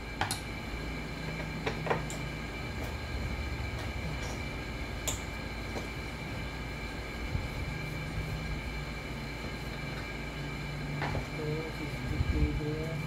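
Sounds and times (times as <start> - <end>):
faint whine: 0.0 - 13.0.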